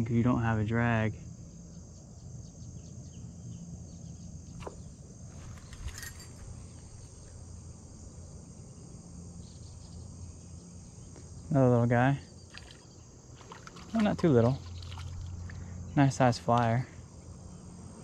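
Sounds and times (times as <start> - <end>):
high-pitched insect chorus: 0.0 - 18.0
low background hum: 0.0 - 18.0.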